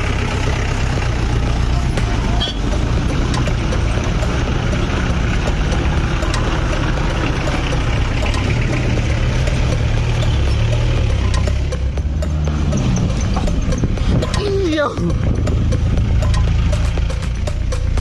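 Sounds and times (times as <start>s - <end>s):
vehicle engine running at low revs: 0.0s - 18.0s.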